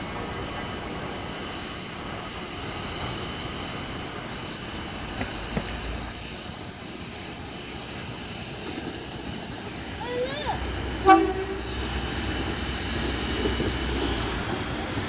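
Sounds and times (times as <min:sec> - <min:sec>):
diesel railcar drawing in: 0:00.0 - 0:15.0
steam locomotive blowing off steam: 0:00.0 - 0:15.0.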